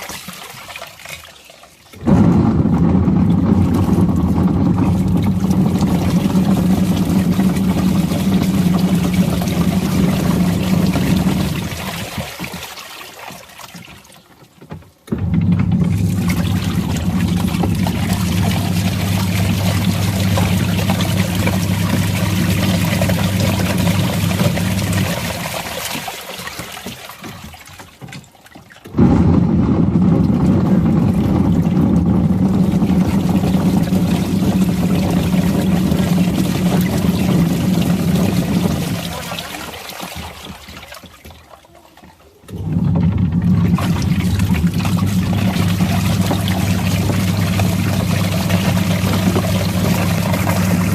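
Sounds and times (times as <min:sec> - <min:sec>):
water sloshing: 0:00.0 - 0:50.9
washing machine motor humming: 0:01.9 - 0:12.9, 0:14.6 - 0:41.5, 0:42.3 - 0:50.9.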